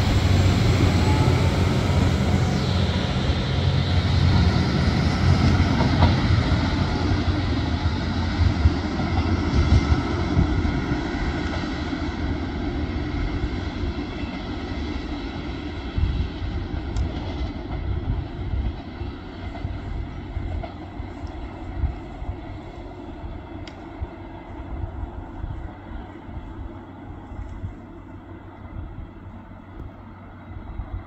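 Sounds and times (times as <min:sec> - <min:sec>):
diesel train engine humming: 0:00.0 - 0:31.0.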